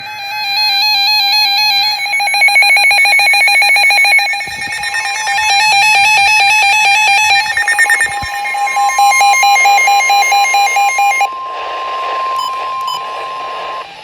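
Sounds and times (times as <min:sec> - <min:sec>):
rapid electronic alarm beeping: 0:00.0 - 0:14.0
steady high warning tone: 0:00.0 - 0:14.0.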